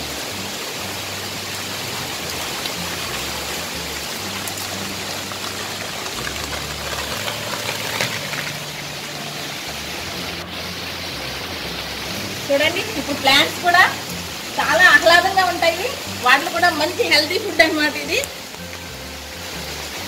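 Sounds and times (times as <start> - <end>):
raindrops striking close by: 0.0 - 20.0
steady rain falling: 0.0 - 20.0.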